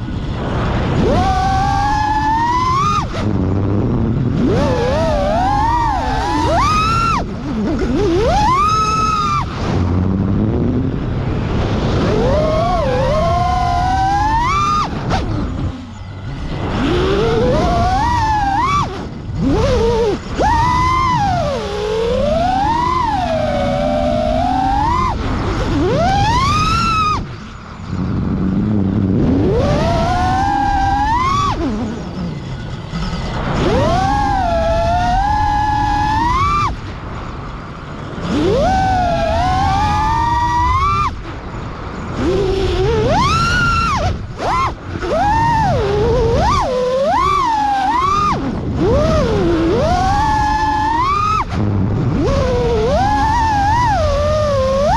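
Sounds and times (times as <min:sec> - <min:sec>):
quadcopter motors whining: 0:00.0 - 0:54.9.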